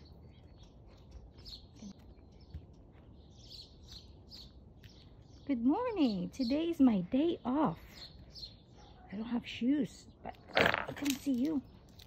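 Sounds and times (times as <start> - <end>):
faint bird chirping: 0.0 - 10.6
outdoor background noise: 0.0 - 12.0.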